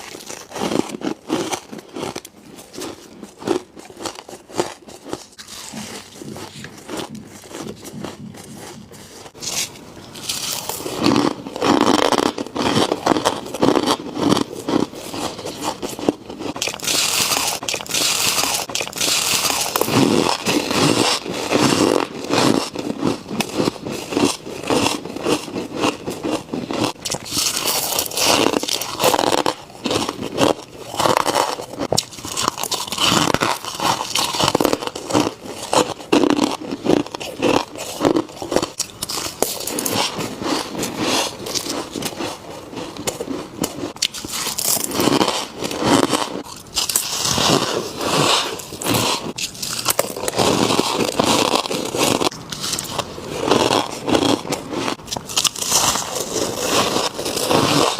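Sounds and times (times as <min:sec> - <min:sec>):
frost being chewed: 0:00.0 - 0:57.9
frost scraping: 0:04.7 - 0:57.9.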